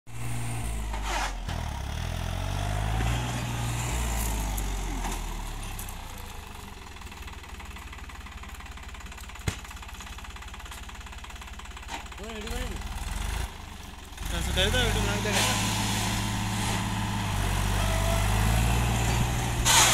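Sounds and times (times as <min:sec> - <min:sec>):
tractor diesel engine running: 0:00.1 - 0:19.9.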